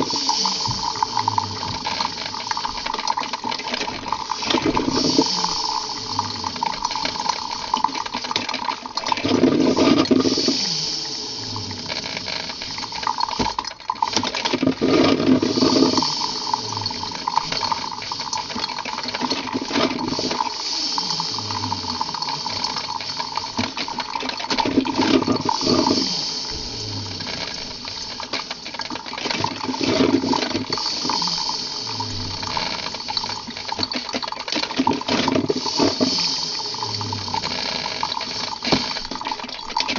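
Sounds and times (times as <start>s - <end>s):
coffee machine running: 0.0s - 39.9s.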